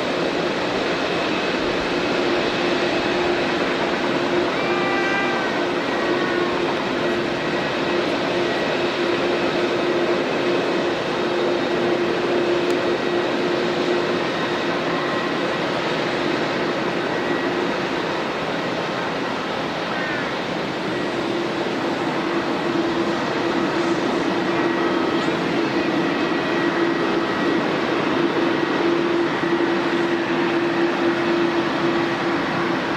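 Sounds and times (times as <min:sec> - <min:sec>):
jet engines rushing: 0:00.0 - 0:32.9.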